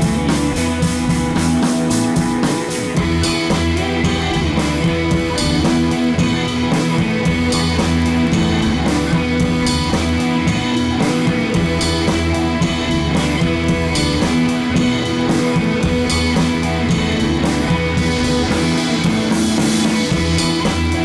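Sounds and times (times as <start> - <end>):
drum kit: 0.0 - 21.0
electric guitar: 0.0 - 21.0.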